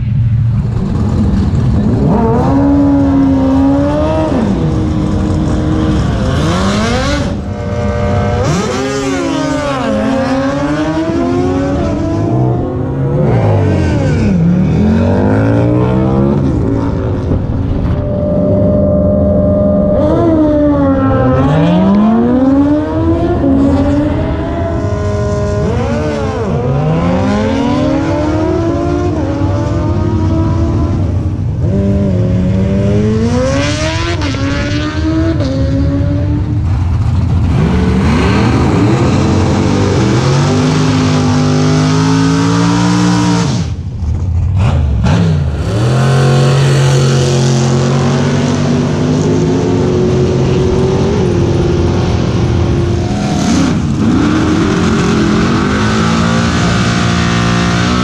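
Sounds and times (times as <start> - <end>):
drag racing engines revving: 0.0 - 58.0.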